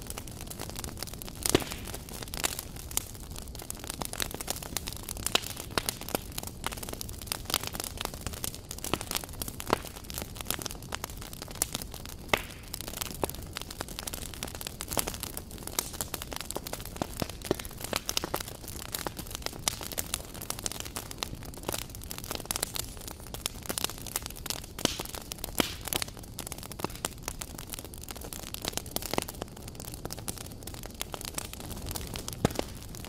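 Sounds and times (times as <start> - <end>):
wood embers crackling and popping: 0.0 - 33.0.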